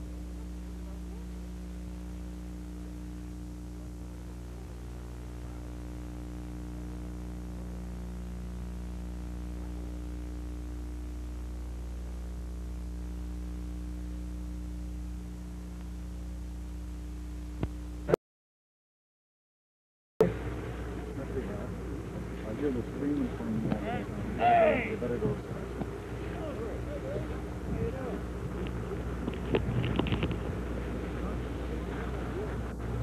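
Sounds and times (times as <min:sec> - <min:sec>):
electrical mains hum with hiss: 0:00.0 - 0:18.2, 0:20.2 - 0:33.0.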